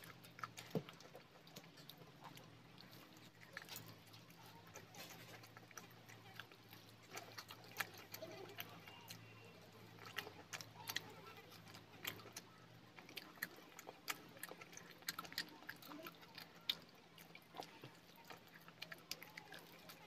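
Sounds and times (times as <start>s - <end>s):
lip and tongue clicks: 0.0s - 20.0s
person chewing food: 0.0s - 20.0s.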